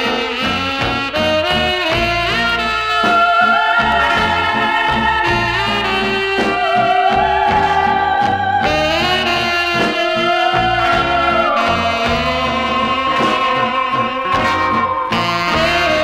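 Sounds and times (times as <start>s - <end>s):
orchestral backing: 0.0s - 16.0s
theremin-like wailing lead: 1.2s - 16.0s.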